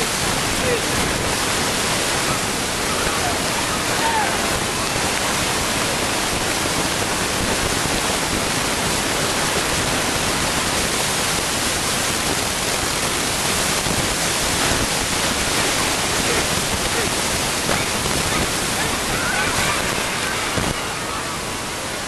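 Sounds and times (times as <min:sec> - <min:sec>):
loud steady hiss: 0:00.0 - 0:22.0.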